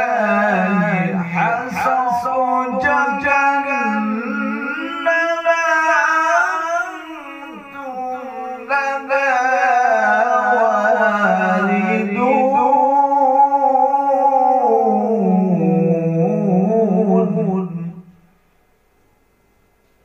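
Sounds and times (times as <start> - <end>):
man reciting melodically: 0.0 - 18.2.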